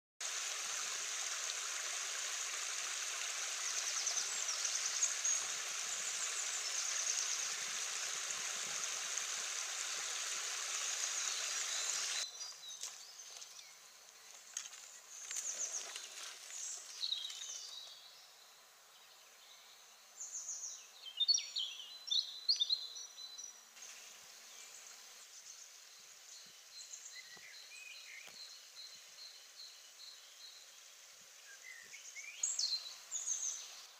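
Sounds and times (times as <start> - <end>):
songbirds twittering: 2.5 - 9.1, 10.6 - 23.7, 24.4 - 33.9
small birds chirping: 2.5 - 18.4, 19.0 - 23.7, 24.4 - 33.9.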